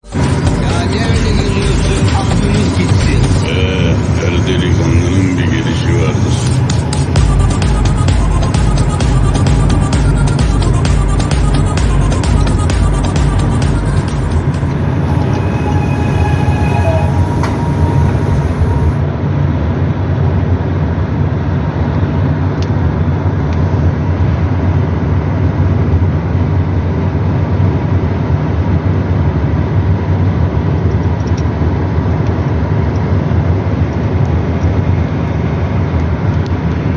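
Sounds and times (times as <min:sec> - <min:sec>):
vehicle rumble: 0:00.0 - 0:36.9.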